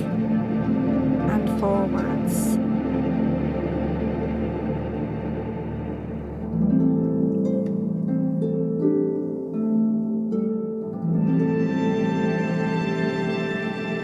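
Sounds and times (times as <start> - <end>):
calm orchestral music: 0.0 - 14.0.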